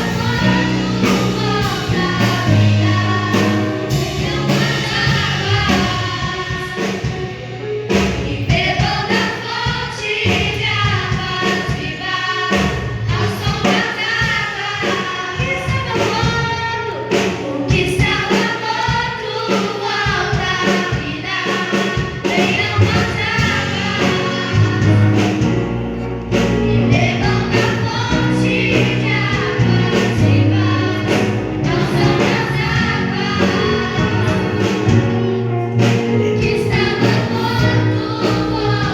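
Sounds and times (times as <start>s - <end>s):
choir singing gospel: 0.0s - 38.9s.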